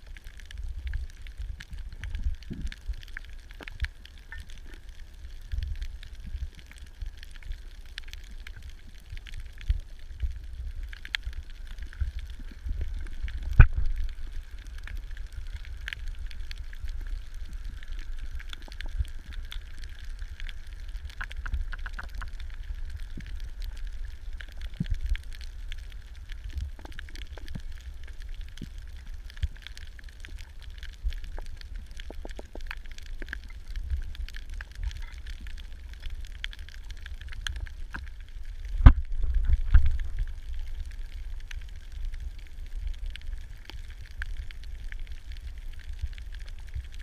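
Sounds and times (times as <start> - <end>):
clicks and crackles: 0.0 - 47.0
low underwater rumble: 0.0 - 47.0.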